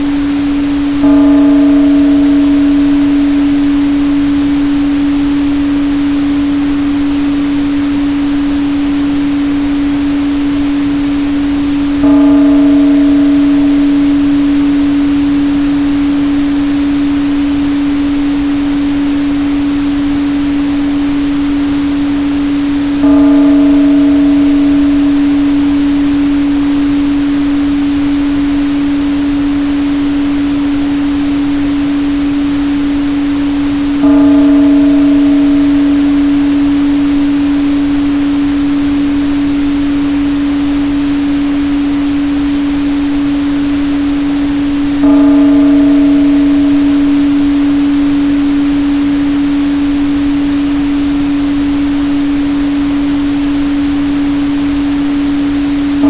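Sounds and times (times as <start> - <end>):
struck bowl ringing: 0.0 - 19.8, 20.6 - 42.2, 44.3 - 54.0
steady pure tone: 0.0 - 56.0.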